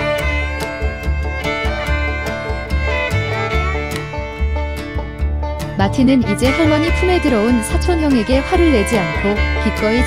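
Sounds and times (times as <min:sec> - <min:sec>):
bass and light percussion beat: 0:00.0 - 0:10.0
fiddle tune: 0:00.0 - 0:10.0.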